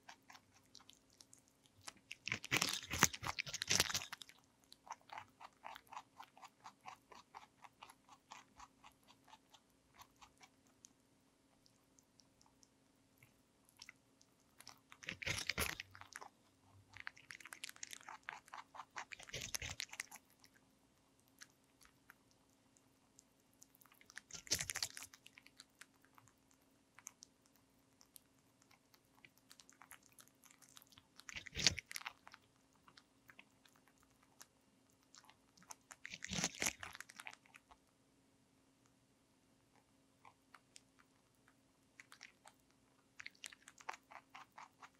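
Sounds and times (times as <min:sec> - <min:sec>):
rabbit crunching cucumber: 0:00.0 - 0:37.9, 0:39.7 - 0:44.9.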